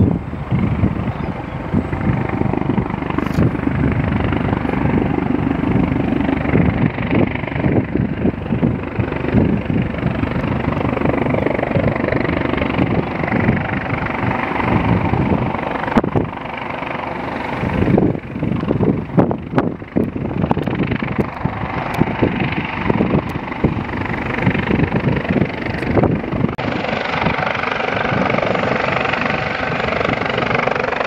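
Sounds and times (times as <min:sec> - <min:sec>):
helicopter rotor beating: 0:00.0 - 0:31.0
turbine hum: 0:00.0 - 0:31.0
wind on microphone: 0:00.0 - 0:31.0.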